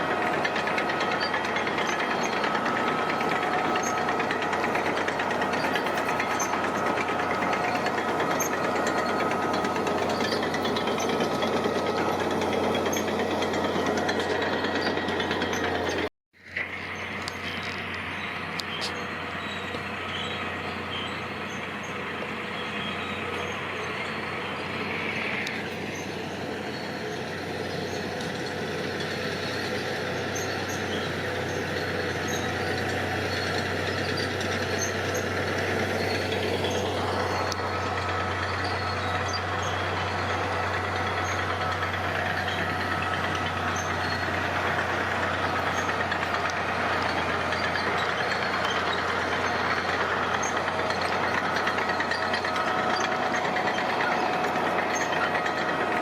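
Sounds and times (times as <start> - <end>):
heavy diesel machinery running: 0.0 - 56.0
machinery whine: 0.0 - 56.0.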